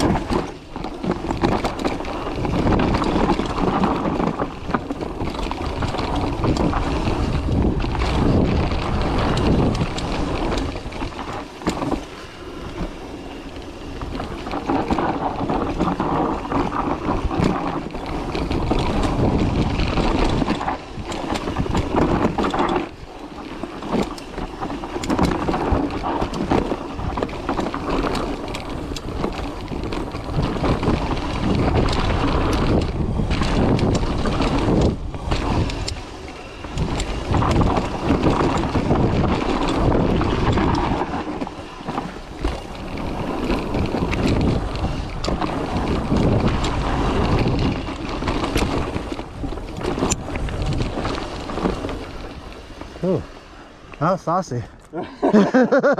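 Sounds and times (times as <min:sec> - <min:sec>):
bike rattling and clattering: 0:00.0 - 0:54.6, 0:55.4 - 0:55.9
tyres rolling over dirt: 0:00.0 - 0:54.6
wind rushing over microphone: 0:00.0 - 0:55.9.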